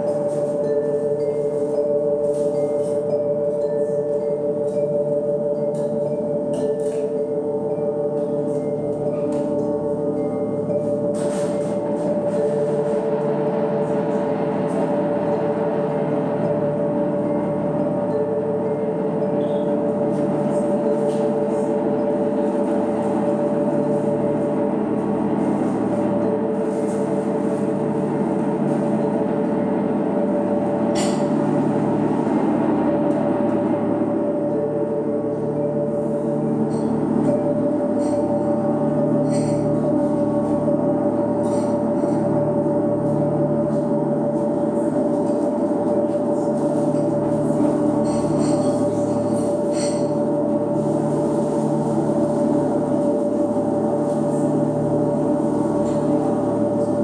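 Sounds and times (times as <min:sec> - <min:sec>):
ambient drone music: 0:00.0 - 0:57.0.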